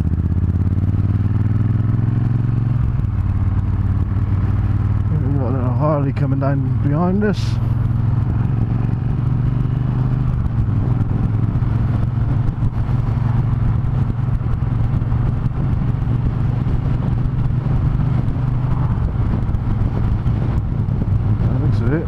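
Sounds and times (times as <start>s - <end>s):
motorcycle engine droning: 0.0s - 22.0s
road and wind noise: 0.0s - 22.0s.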